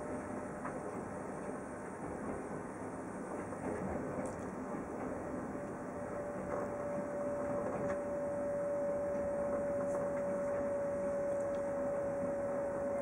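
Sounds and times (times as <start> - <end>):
constant whine: 0.0 - 13.0
train rolling rumble: 0.0 - 13.0.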